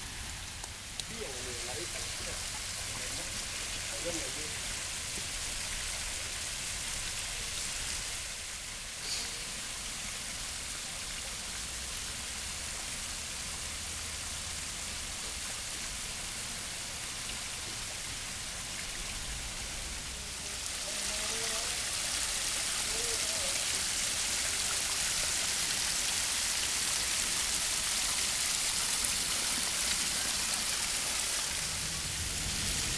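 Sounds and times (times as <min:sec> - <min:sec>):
falling water splashing: 0:00.0 - 0:32.9.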